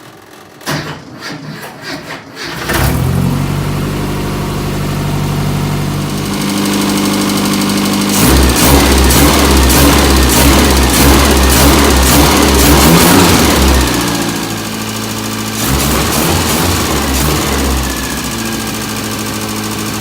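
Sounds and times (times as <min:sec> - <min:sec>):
car engine starting and revving: 0:00.0 - 0:20.0.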